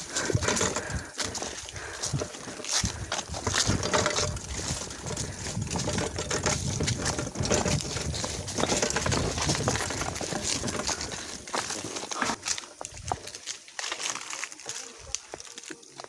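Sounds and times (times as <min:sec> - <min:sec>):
bike tyres clattering over stones: 0:00.0 - 0:16.0
footsteps scuffing on rocks: 0:00.0 - 0:16.0.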